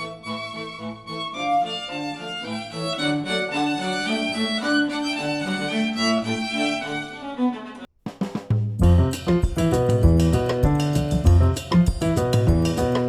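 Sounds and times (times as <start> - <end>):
string music: 0.0 - 7.9, 8.8 - 13.0.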